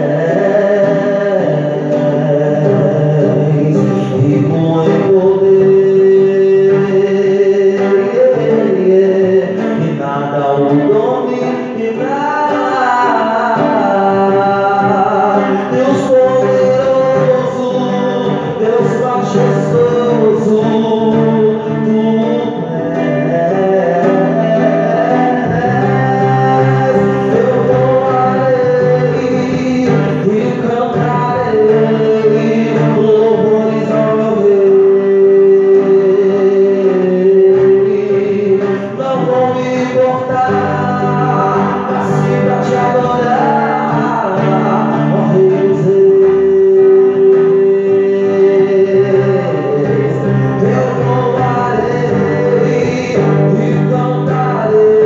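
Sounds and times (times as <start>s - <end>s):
electric guitar: 0.0s - 55.0s
man singing into a microphone: 0.0s - 55.0s.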